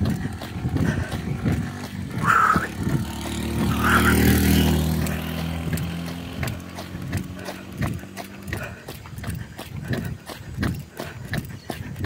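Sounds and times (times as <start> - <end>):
vehicle engine passing by: 0.0 - 10.7
footsteps on asphalt: 0.0 - 12.0.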